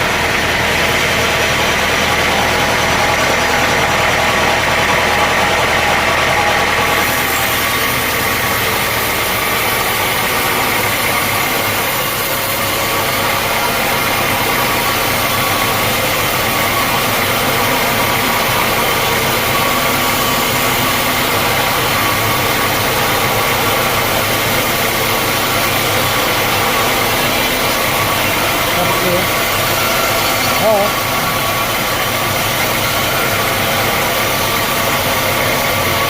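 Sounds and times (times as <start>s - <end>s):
sawmill machinery running: 0.0s - 36.0s.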